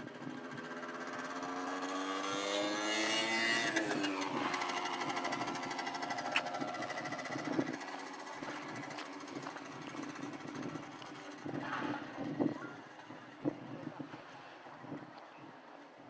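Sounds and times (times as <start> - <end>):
small motorcycle passing by: 0.0 - 15.7.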